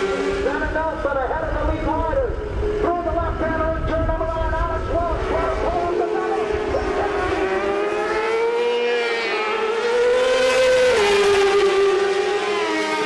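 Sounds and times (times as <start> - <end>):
racing motorbike engines revving: 0.0 - 13.0.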